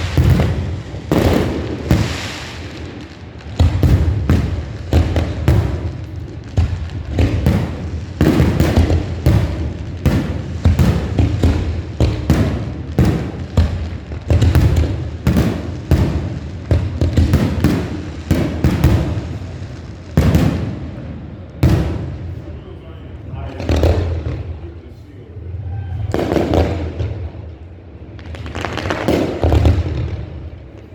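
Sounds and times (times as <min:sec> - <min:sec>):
fireworks bursting: 0:00.0 - 0:30.9.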